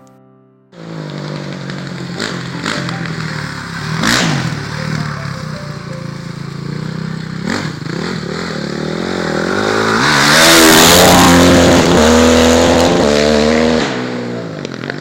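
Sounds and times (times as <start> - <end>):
pit bike engine revving: 0.8 - 15.0.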